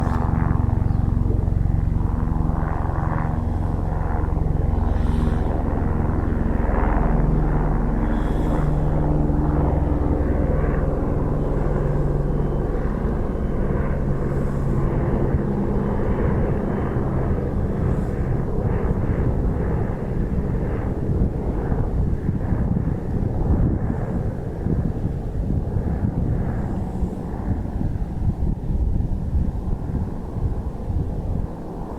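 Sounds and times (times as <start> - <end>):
helicopter rotor and turbine: 0.0 - 31.9.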